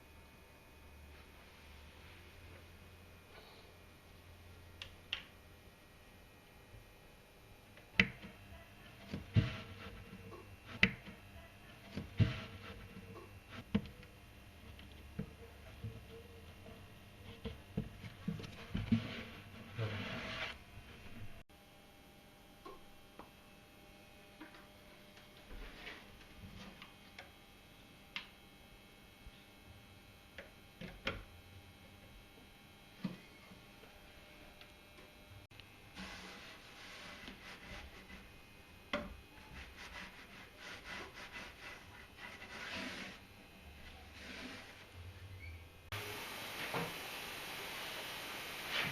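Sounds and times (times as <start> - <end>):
faint steady hum: 0.0 - 48.8.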